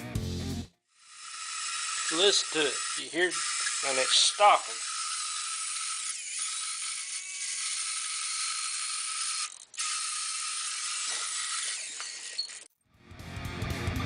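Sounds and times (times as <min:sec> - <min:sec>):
winch motor whirring: 0:00.9 - 0:12.7.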